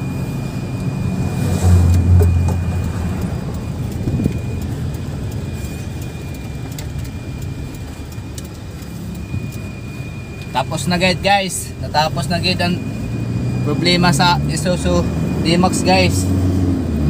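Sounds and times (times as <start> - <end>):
diesel engine and tyres rumbling: 0.0 - 17.0.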